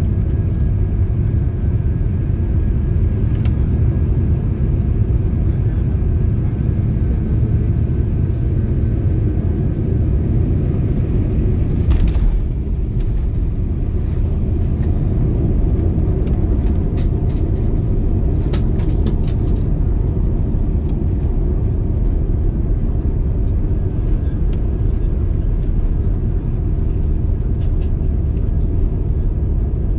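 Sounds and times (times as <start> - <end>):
low rumble of engines and wheels: 0.0 - 29.9.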